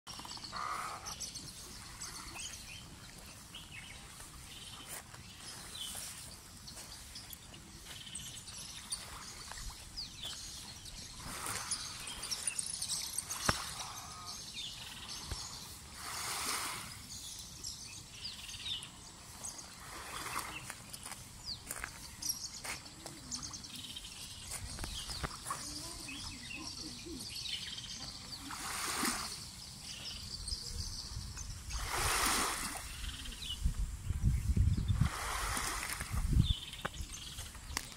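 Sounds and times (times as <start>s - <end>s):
wild birds chirping and calling: 0.1s - 33.7s.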